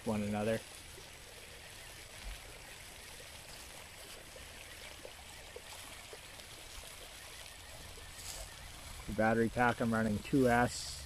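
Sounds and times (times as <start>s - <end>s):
running water hissing: 0.0s - 11.0s.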